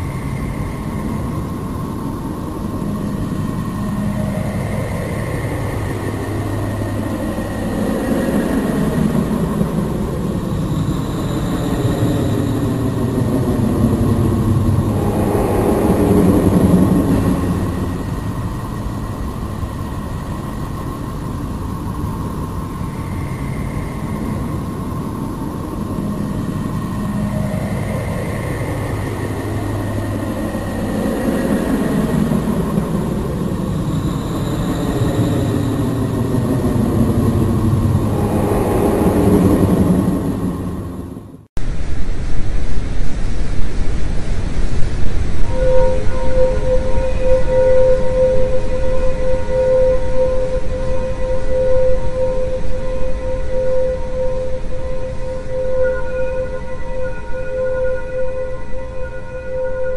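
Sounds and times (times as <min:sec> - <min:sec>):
sweeping tones: 0:00.0 - 0:41.5, 0:45.1 - 0:59.9
low rumbling drone: 0:00.0 - 0:59.9.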